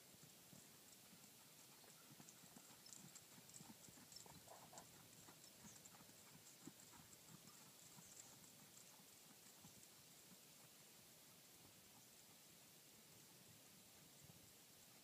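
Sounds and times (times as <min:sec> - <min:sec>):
faint hoofbeats on sand: 0:00.0 - 0:15.0.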